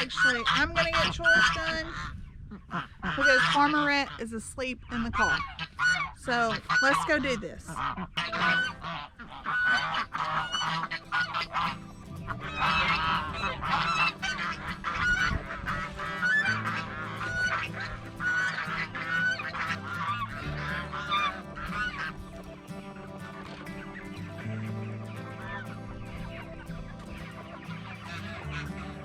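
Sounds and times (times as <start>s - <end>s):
waterfowl honking: 0.0s - 29.0s.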